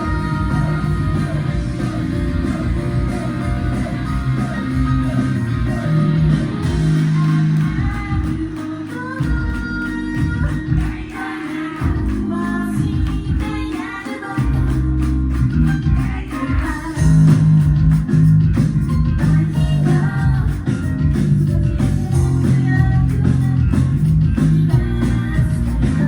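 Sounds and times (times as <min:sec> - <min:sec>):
woman singing: 0:00.0 - 0:17.6, 0:19.1 - 0:26.0
live rock band playing: 0:00.0 - 0:26.0.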